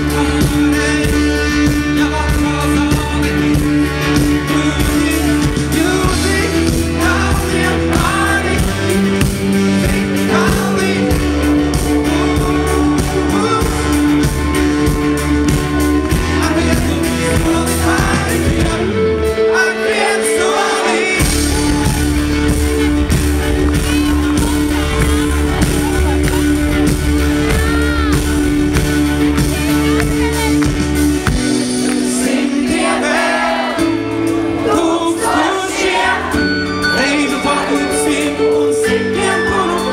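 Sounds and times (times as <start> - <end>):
low bass notes: 0.0 - 19.7, 21.0 - 39.9
acoustic guitar: 0.0 - 39.9
keyboards: 0.0 - 39.9
person singing: 0.0 - 39.9.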